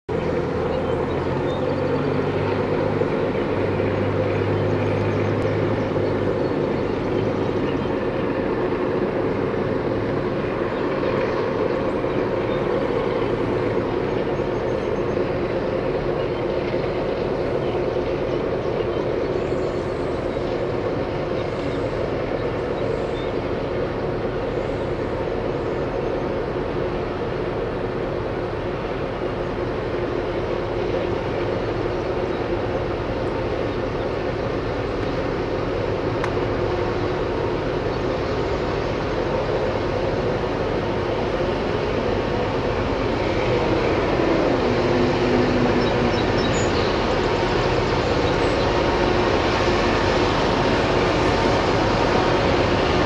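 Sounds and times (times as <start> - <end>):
diesel locomotive engines running: 0.1 - 53.0
low hum: 0.1 - 53.0.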